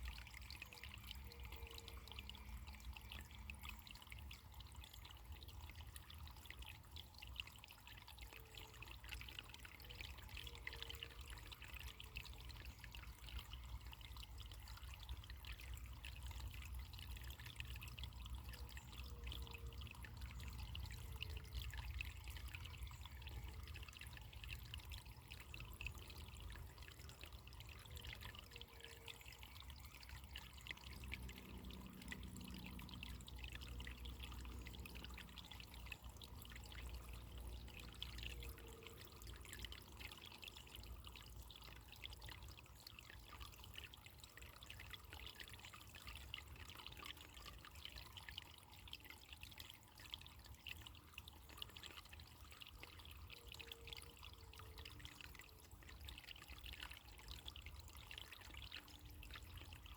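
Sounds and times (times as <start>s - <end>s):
water trickling and bubbling: 0.0s - 59.9s.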